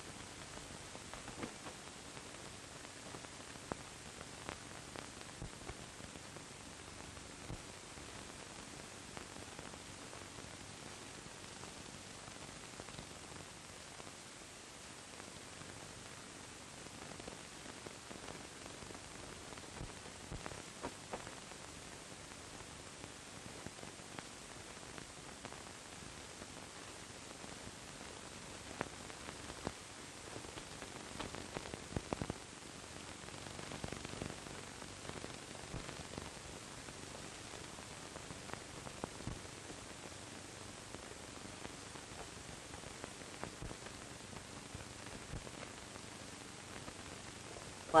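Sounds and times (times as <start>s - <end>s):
faint clicks and crackles: 0.0s - 48.0s
film soundtrack hiss: 0.0s - 48.0s.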